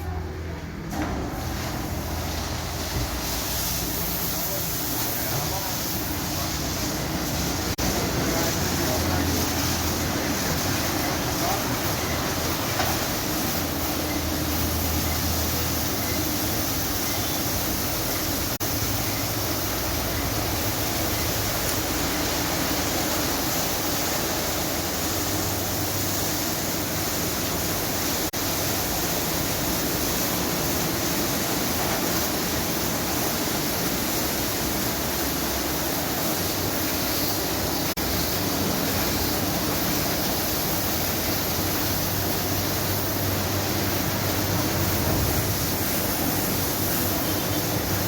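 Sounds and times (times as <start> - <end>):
water spraying over a car: 0.4 - 48.0.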